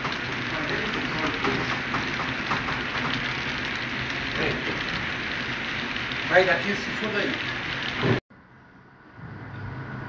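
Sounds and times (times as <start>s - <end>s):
model train wheels rolling on track: 0.0s - 8.2s.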